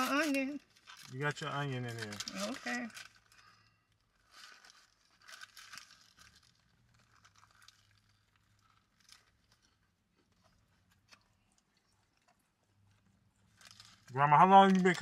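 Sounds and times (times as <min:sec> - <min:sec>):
paper wrappers crinkling: 0:00.0 - 0:15.0.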